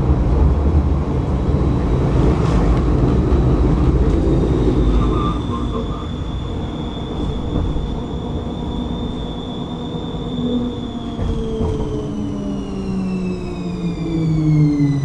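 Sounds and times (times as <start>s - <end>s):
electric tram running: 0.0s - 15.0s.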